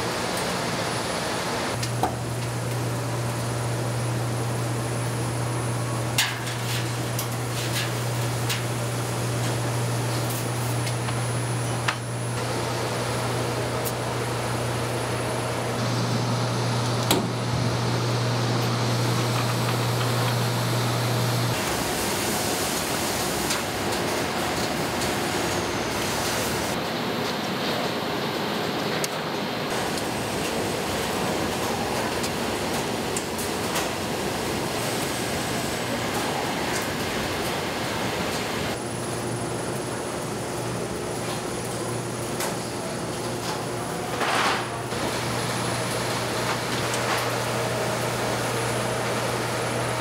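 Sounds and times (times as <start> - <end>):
tumble dryers whirring: 0.0 - 50.0.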